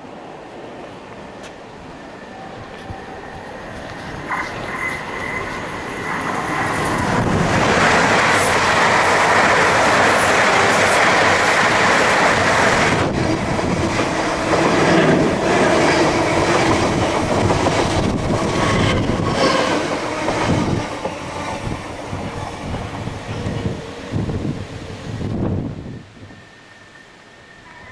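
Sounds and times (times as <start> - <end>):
train passing on rails: 0.0 - 27.9.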